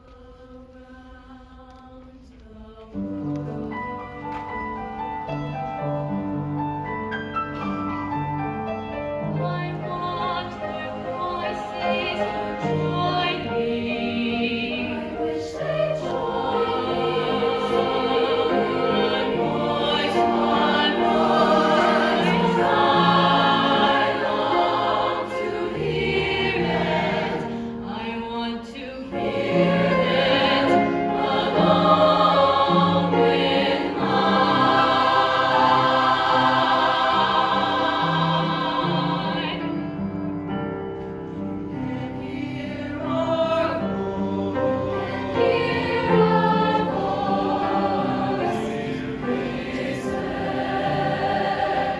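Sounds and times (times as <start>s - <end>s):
choir singing: 0.0s - 51.9s.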